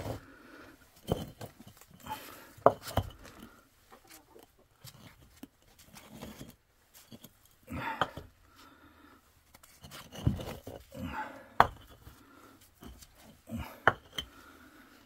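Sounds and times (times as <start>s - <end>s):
concrete blocks knocking and scraping: 1.0s - 8.4s, 9.5s - 14.6s.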